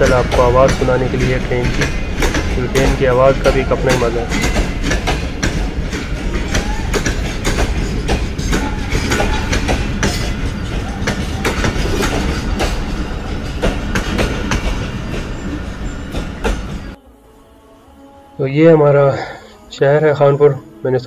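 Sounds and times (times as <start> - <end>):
knocks and clacks of train: 0.0 - 17.0
train wheels rumbling on track: 0.0 - 17.0.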